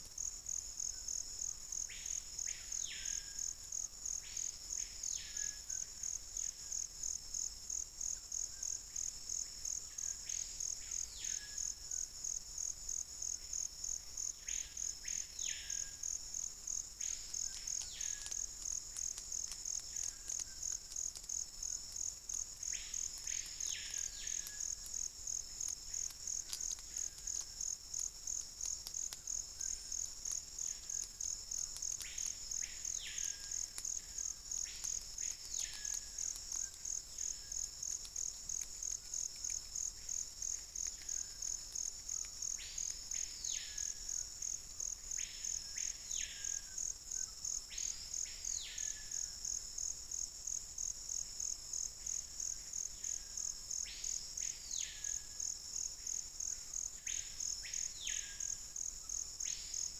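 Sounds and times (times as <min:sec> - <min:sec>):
pulsing insect chorus: 0:00.1 - 0:59.9.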